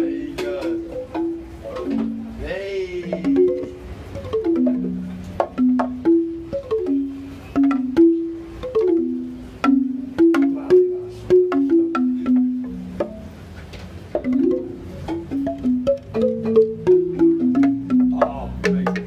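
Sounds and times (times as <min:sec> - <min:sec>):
bamboo xylophone melody: 0:00.0 - 0:19.0.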